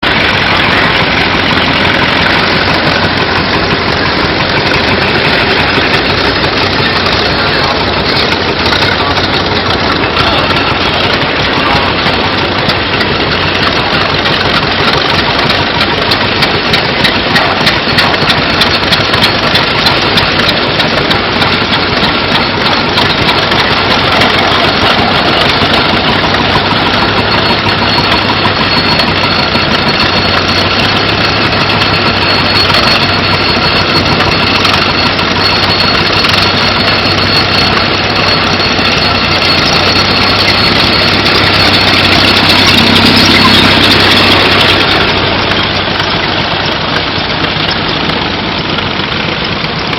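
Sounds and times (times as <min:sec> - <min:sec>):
engine running with fast beat: 0:00.0 - 0:49.9.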